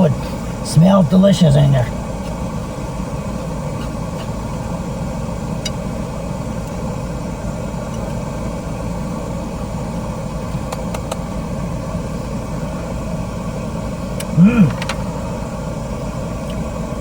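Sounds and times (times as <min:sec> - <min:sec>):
car interior rumble and hiss: 0:00.0 - 0:17.0.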